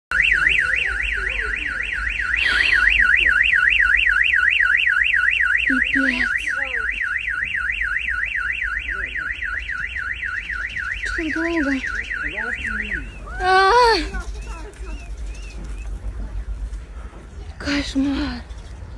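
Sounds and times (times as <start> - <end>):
car alarm warbling: 0.1 - 16.7.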